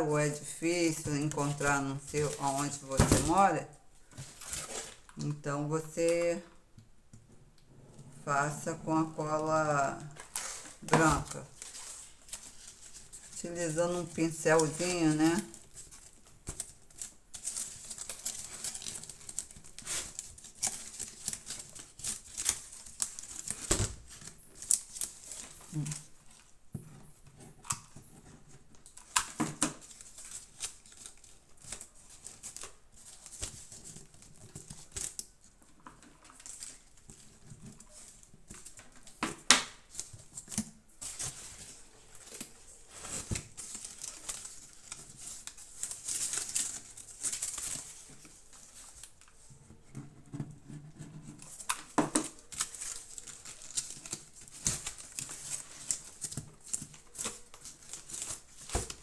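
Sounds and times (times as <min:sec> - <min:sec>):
paper rustling and crinkling: 0:00.0 - 0:05.3, 0:08.9 - 0:59.0.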